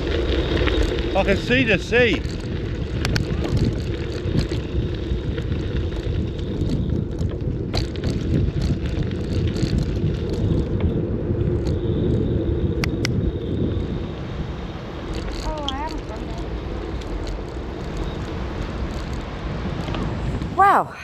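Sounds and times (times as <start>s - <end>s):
bike clicks and rattles: 0.0s - 13.2s, 15.0s - 20.2s
tyre noise on road: 0.0s - 21.0s
wind on microphone: 0.0s - 21.0s.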